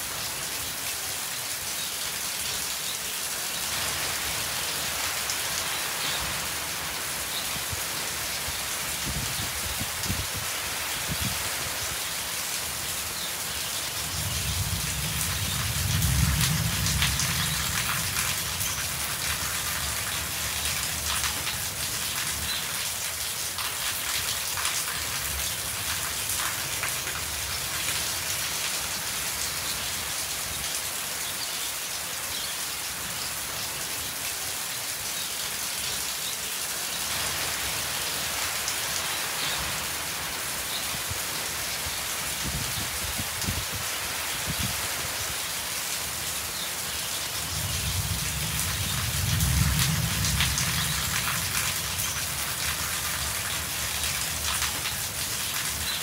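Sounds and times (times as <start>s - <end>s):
rain on concrete and puddles: 0.0s - 56.0s.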